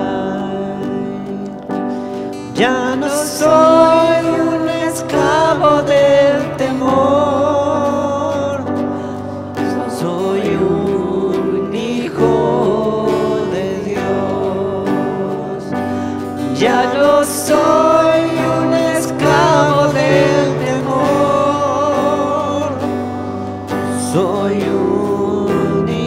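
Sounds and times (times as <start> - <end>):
keyboard: 0.0 - 26.0
person singing: 0.0 - 26.0
strummed acoustic guitar: 0.0 - 26.0.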